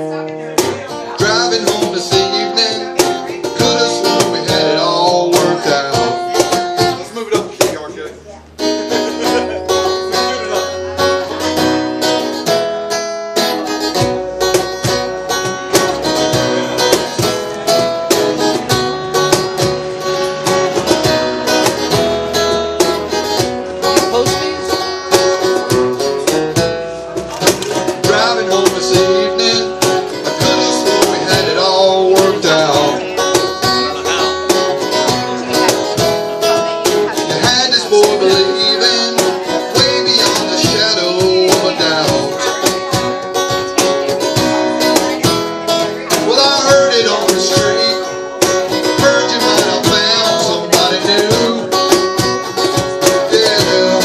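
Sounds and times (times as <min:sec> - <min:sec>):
acoustic guitar strumming: 0:00.0 - 0:54.0
cajon beating: 0:00.0 - 0:54.0.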